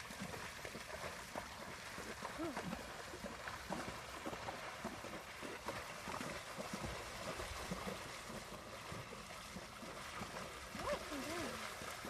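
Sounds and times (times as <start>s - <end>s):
horse splashing through water: 0.0s - 12.0s.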